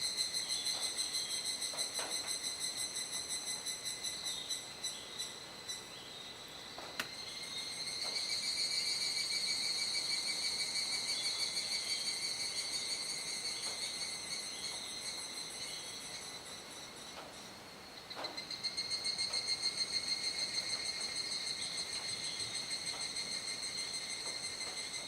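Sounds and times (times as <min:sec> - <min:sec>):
cicadas trilling: 0:00.0 - 0:25.0.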